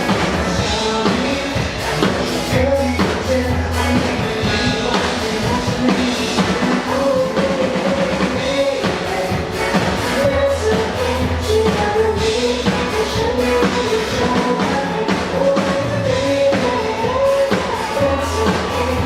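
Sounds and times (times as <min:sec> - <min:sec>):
bass: 0:00.0 - 0:19.0
drum kit beat: 0:00.0 - 0:19.0
woman singing: 0:00.6 - 0:19.0.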